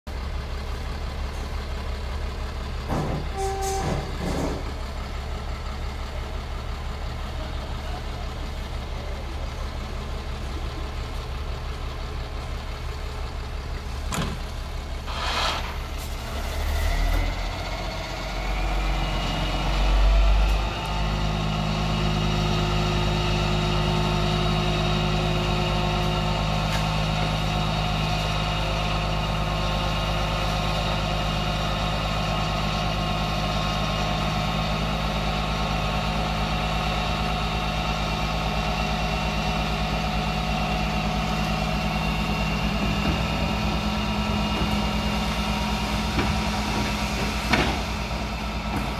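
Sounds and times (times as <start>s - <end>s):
diesel truck engine idling: 0.1s - 48.9s.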